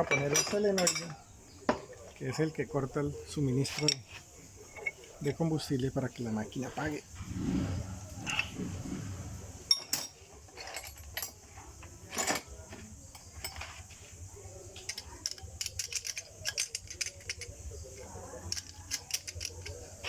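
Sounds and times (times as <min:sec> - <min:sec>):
metal parts and tools clinking: 0:00.0 - 0:02.7, 0:03.4 - 0:20.0.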